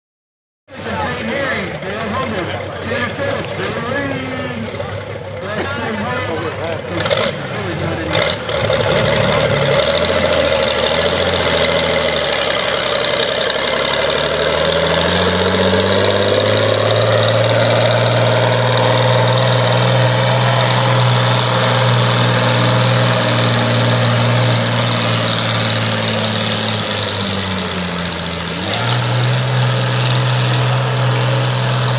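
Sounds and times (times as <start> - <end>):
tractor engine revving: 0.7 - 31.9.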